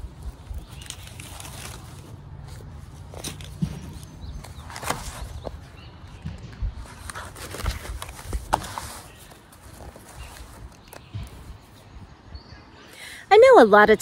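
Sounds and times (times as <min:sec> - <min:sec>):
rustling of writing materials: 0:00.0 - 0:11.8.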